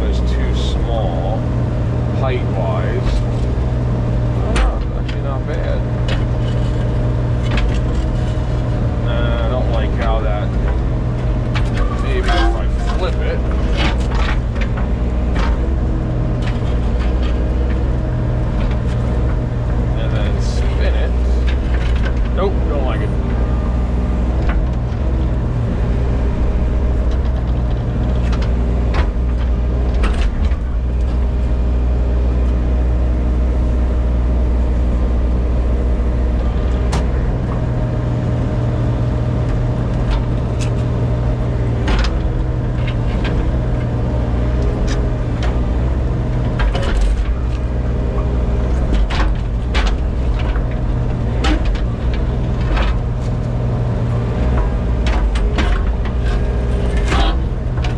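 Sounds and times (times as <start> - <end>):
earthmoving machine engine: 0.0 - 57.9
knocks and clanks: 2.1 - 31.8, 36.3 - 57.9.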